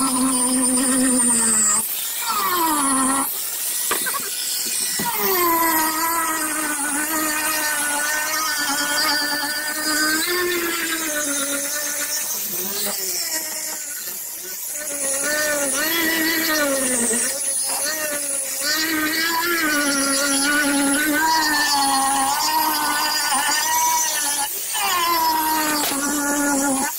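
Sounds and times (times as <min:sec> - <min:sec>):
electric grinder whining: 0:00.0 - 0:26.9.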